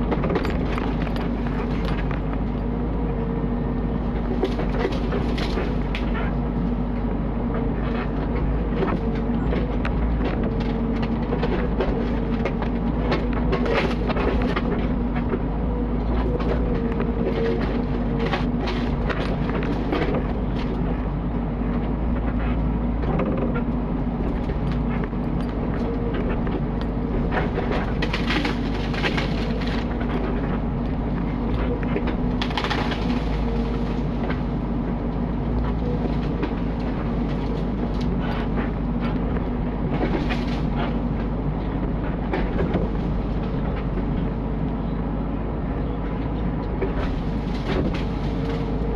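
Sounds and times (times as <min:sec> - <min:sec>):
knocks and clatter of logs: 0:00.0 - 0:44.8, 0:45.9 - 0:48.9
diesel engine running under load: 0:00.0 - 0:48.9.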